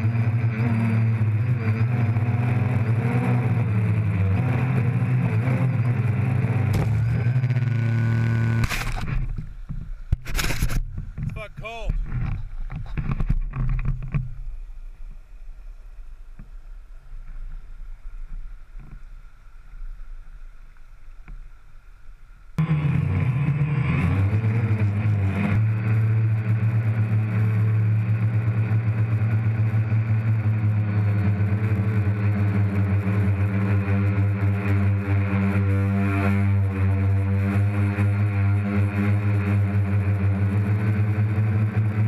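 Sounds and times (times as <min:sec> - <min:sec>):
drone motors humming: 0:00.0 - 0:42.0.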